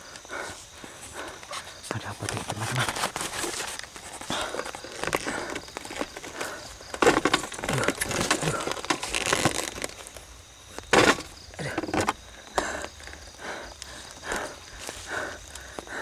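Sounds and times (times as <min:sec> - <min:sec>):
dry leaves and twigs crunching: 0:00.7 - 0:15.9.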